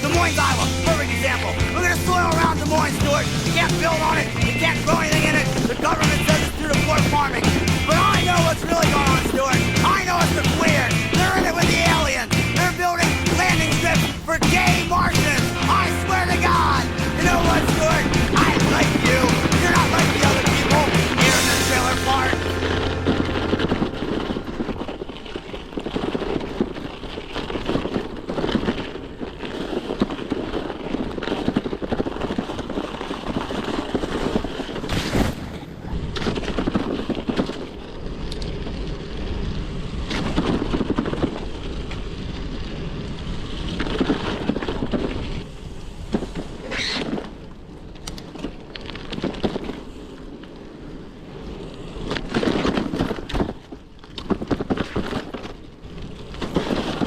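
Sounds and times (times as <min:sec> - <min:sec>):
bicycle tyres on snow: 0:00.0 - 0:57.0.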